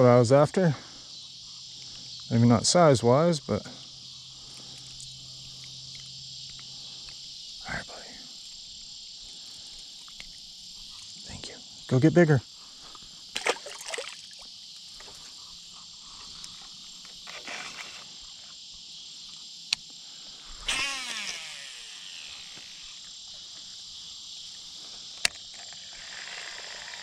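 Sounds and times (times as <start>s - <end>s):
crickets and insects chirping: 0.0s - 27.0s.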